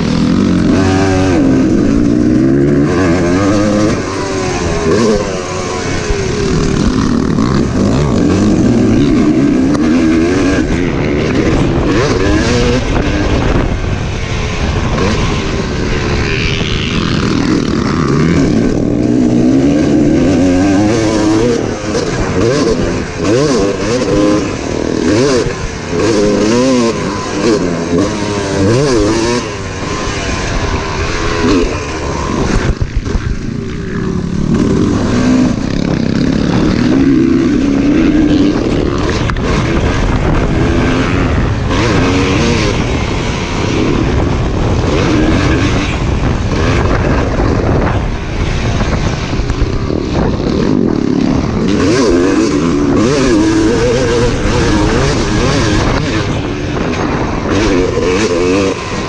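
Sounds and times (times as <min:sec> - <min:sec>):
motocross bike engine revving: 0:00.0 - 0:59.0
wind rumble on microphone: 0:00.0 - 0:59.0.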